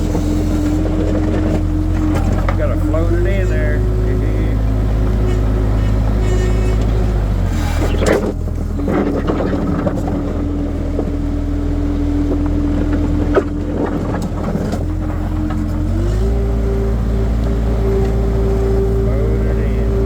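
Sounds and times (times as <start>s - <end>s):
skid steer engine whining: 0.0s - 20.0s.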